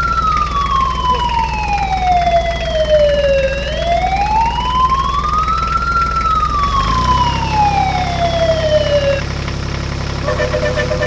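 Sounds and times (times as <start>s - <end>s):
siren wailing: 0.0s - 9.3s, 10.1s - 11.0s.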